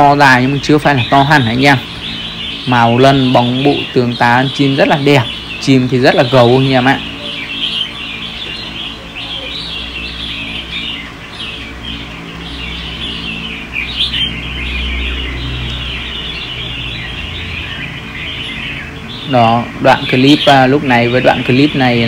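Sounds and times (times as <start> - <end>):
birds chirping and calling: 0.0 - 22.0
steady low hum: 0.0 - 22.0.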